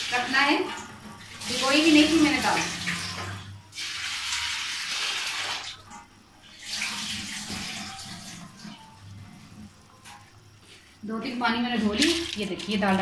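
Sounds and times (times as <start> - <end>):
tap water running: 0.0 - 10.8.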